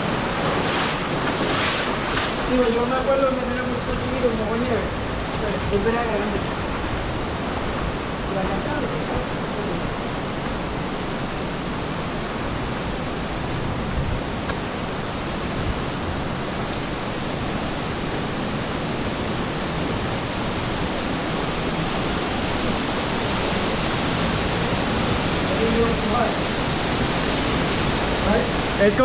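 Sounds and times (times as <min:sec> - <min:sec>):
rushing stream and waterfall: 0:00.0 - 0:29.0.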